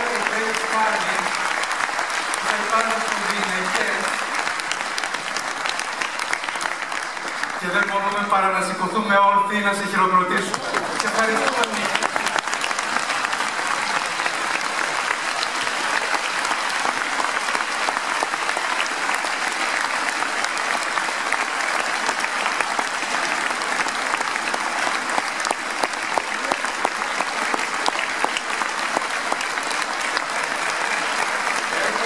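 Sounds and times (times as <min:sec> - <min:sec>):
audience applause: 0:00.0 - 0:32.0.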